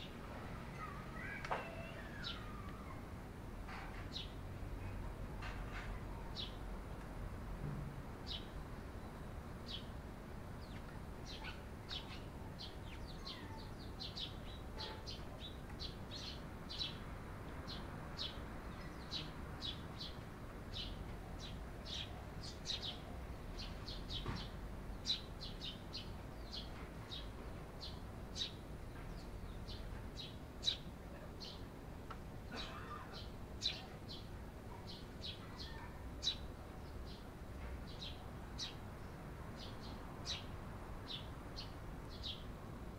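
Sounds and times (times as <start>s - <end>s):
sparrows chirping: 0.0s - 3.0s, 3.7s - 6.7s, 8.2s - 42.9s.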